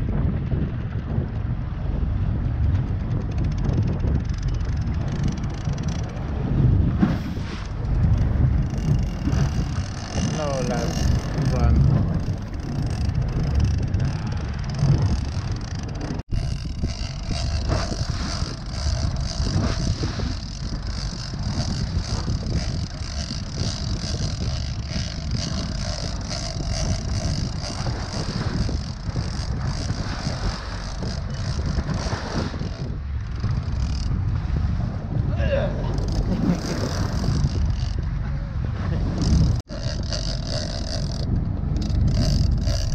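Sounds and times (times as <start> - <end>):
boat engine rumble: 0.0 - 42.9
wind buffeting microphone: 0.0 - 42.9.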